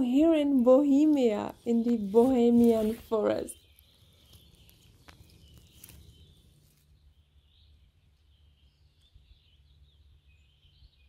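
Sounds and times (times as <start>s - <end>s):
faint high bird chirps: 1.4s - 11.0s.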